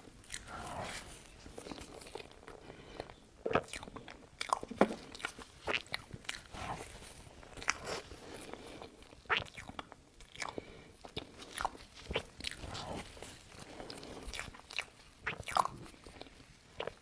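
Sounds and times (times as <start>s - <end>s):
person chewing cake: 0.0s - 17.0s.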